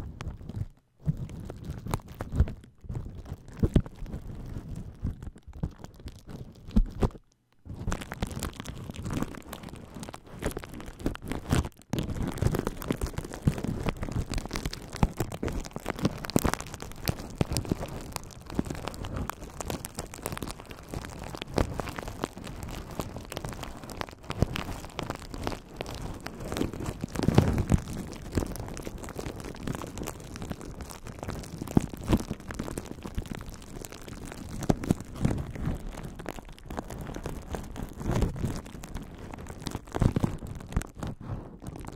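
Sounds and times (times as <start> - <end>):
bubble wrap crinkling: 0.0 - 41.9.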